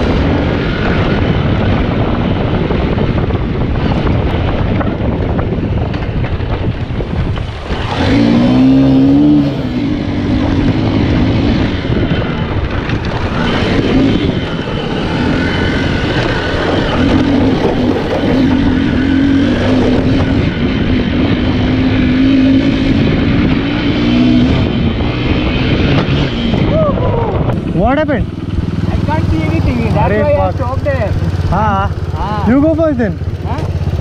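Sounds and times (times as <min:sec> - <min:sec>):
motorcycle engine running: 0:00.0 - 0:34.0
steady rushing noise: 0:00.0 - 0:34.0.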